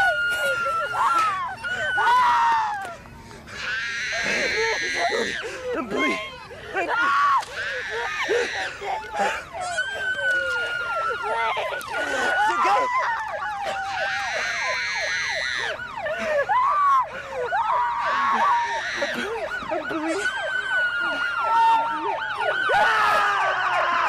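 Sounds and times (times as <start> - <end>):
sirens wailing and yelping: 0.0 - 24.0.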